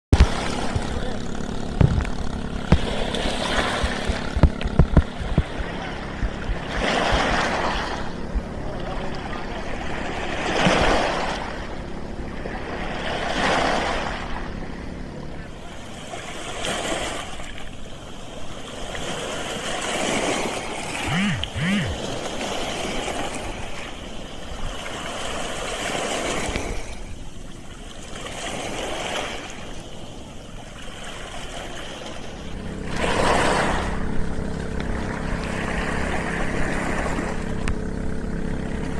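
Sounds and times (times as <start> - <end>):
beach surf washing: 0.1 - 38.9
engine idling: 0.1 - 38.9.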